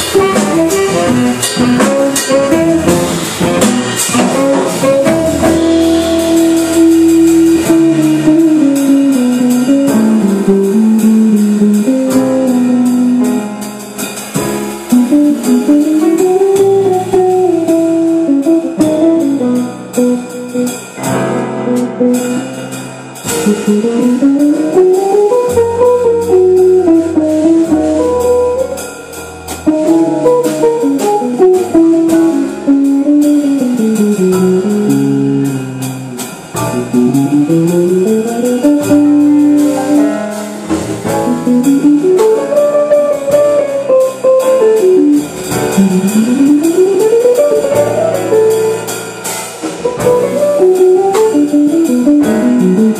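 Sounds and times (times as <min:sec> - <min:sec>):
electric guitar melody: 0:00.0 - 0:13.5, 0:14.6 - 0:52.9
drums: 0:00.0 - 0:52.9
walking upright bass: 0:00.0 - 0:52.9.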